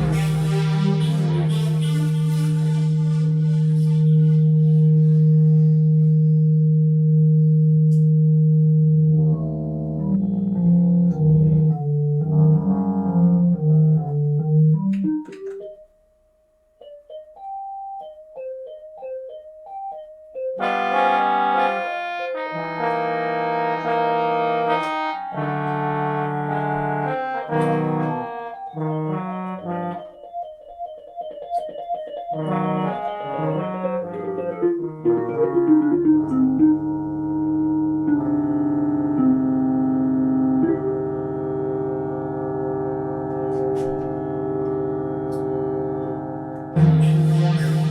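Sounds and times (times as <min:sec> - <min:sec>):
piano and organ chords: 0:00.0 - 0:47.9
single-note keyboard melody: 0:00.0 - 0:47.9.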